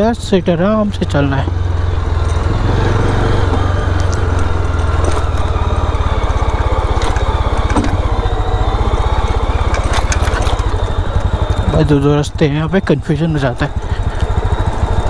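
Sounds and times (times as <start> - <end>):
motorcycle engine pulsing: 0.0 - 15.0.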